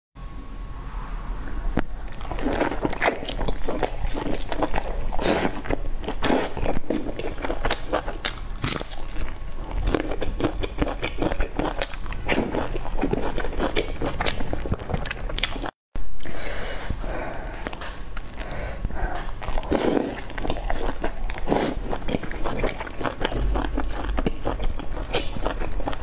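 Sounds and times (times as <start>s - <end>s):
person chewing soft food: 1.8s - 26.0s.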